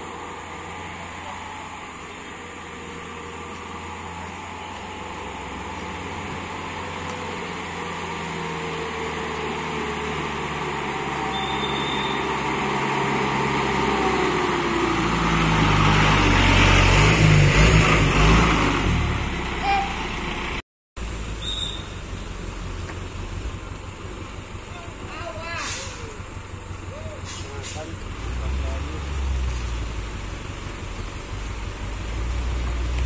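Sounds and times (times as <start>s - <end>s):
truck engine approaching: 0.0s - 33.0s.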